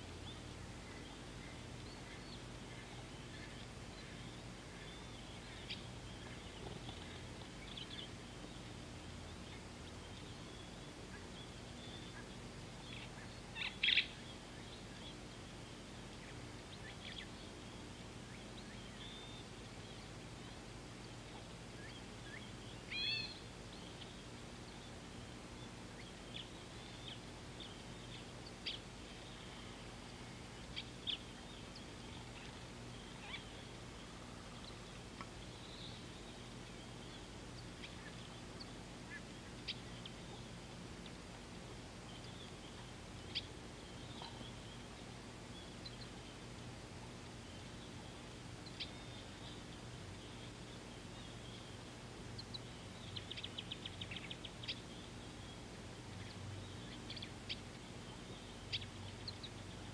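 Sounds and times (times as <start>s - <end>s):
bird calls and chirps: 0.0s - 59.9s
low background hum: 0.0s - 59.9s.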